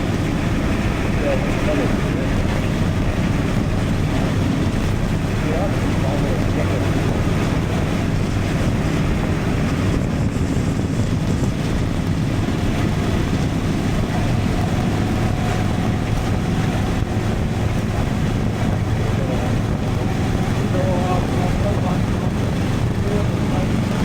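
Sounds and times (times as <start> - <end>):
motorcycle engine humming: 0.0 - 24.0
wind rush: 0.0 - 24.0.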